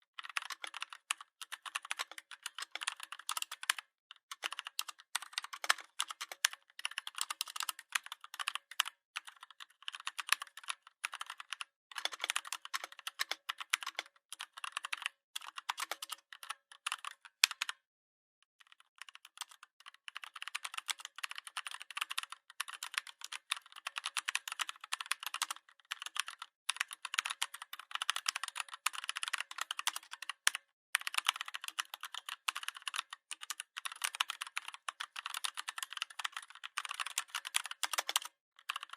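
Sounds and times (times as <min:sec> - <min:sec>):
typing on computer keyboard: 0:00.1 - 0:17.8, 0:18.6 - 0:38.9.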